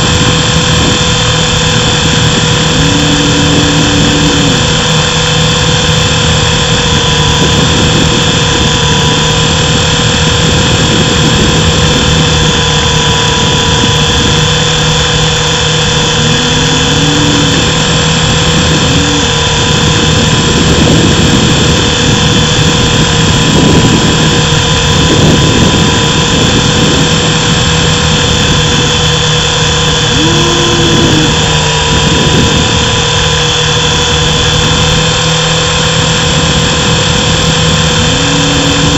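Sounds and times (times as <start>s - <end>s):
electric motor and rotor whine: 0.0s - 38.9s.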